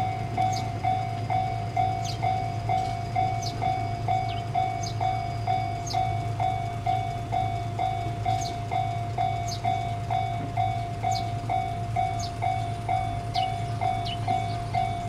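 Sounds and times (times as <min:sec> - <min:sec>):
level crossing bell ringing: 0:00.0 - 0:15.0
train drone: 0:00.0 - 0:15.0.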